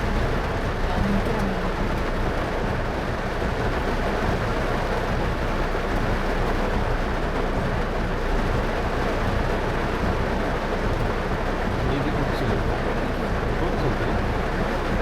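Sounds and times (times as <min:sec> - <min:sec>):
low road rumble: 0:00.0 - 0:15.0
rain and tyres hissing on wet road: 0:00.0 - 0:15.0.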